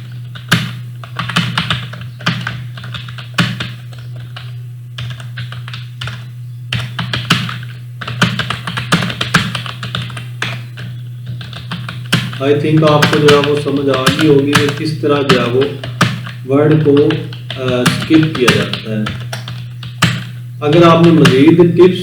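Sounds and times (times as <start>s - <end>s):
computer keyboard typing: 0.0s - 21.7s
steady low hum: 0.0s - 22.0s.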